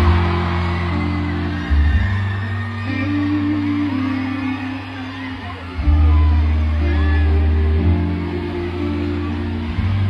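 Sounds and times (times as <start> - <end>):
faint crowd noise: 0.0 - 10.0
live band music through pa: 0.0 - 10.0.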